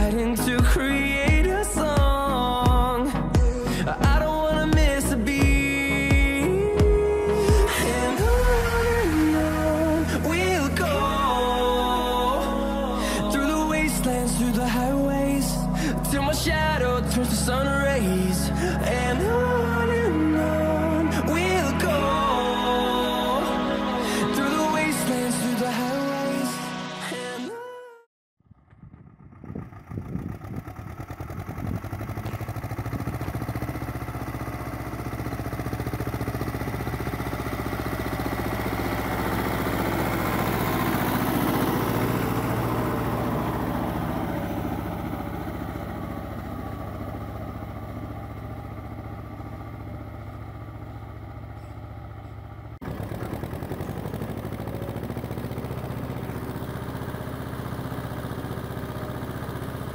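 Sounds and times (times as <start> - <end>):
tractor diesel engine: 0.0 - 27.4, 28.9 - 59.9.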